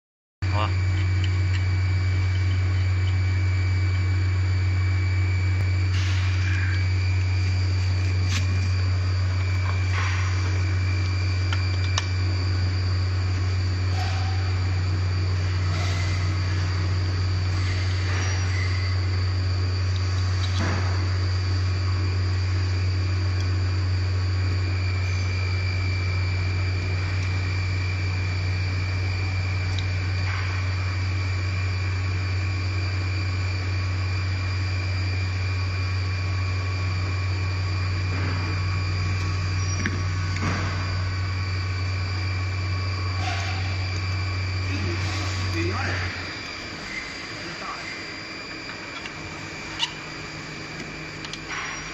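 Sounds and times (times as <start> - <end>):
high whine: 0.4 - 51.9
low machine hum: 0.4 - 51.9.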